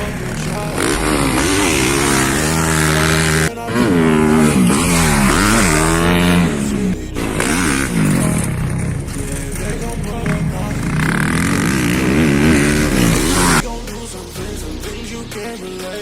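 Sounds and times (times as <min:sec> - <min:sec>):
motorbike engine revving: 0:00.0 - 0:15.4.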